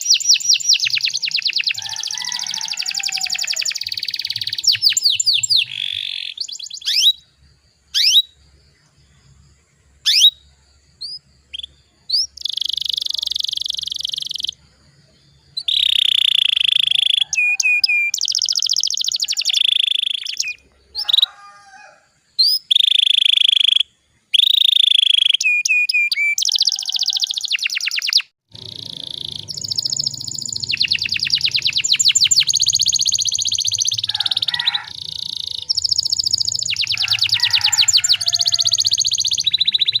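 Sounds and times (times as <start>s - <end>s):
canary singing: 0.0s - 8.5s, 9.1s - 40.0s.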